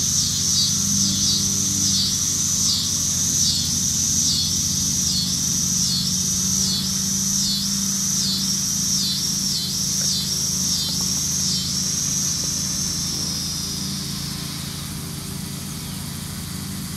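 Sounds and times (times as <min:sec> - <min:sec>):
high insect buzz: 0:00.0 - 0:16.9
low mechanical hum: 0:00.0 - 0:16.9.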